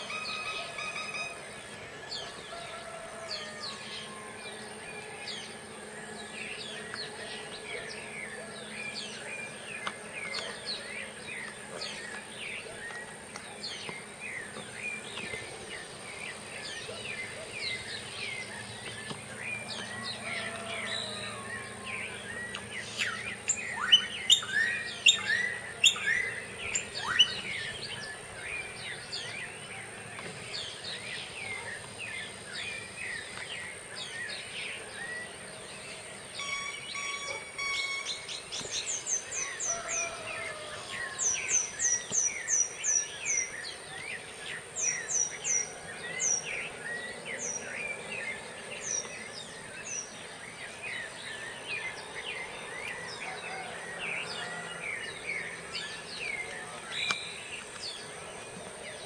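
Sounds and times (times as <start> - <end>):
many birds chirping: 0.0 - 59.0.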